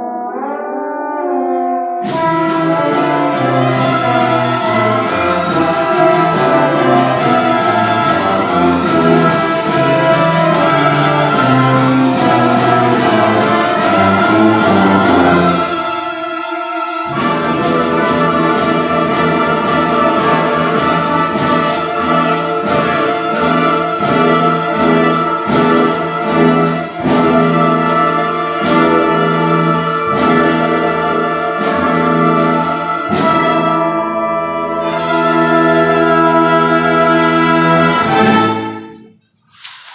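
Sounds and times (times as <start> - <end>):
brass section: 0.0 - 39.2
orchestra playing classical piece: 0.0 - 39.9.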